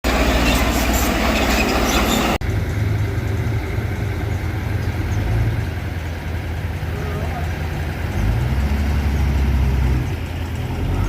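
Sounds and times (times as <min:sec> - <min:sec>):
diesel machine engine humming: 0:00.0 - 0:11.0.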